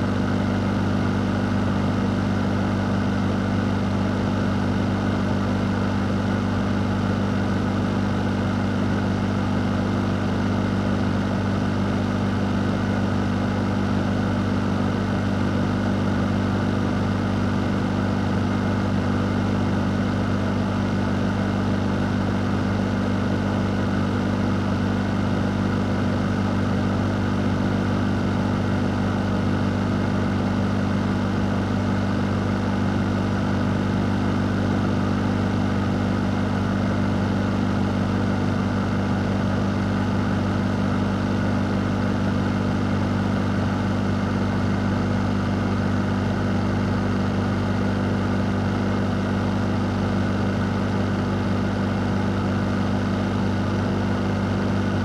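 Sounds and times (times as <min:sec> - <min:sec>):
fan running: 0:00.0 - 0:55.0.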